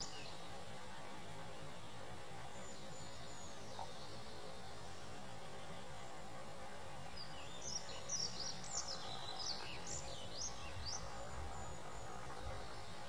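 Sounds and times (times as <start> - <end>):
songbird chirping: 0.0 - 13.0
steady background hiss: 0.0 - 13.0.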